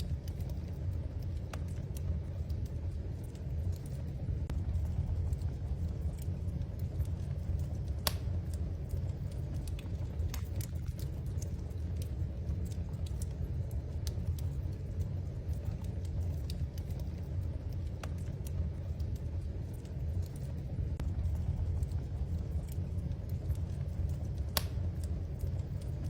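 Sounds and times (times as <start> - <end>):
fire popping and snapping: 0.0 - 26.0
flames rumbling: 0.0 - 26.0.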